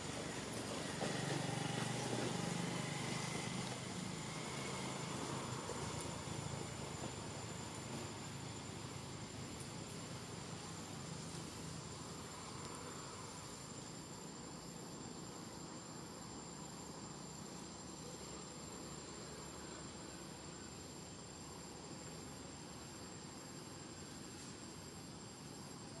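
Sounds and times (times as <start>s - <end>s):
insects chirring: 0.0s - 26.0s
low background hiss: 0.0s - 26.0s
pulsing insect trill: 0.0s - 26.0s.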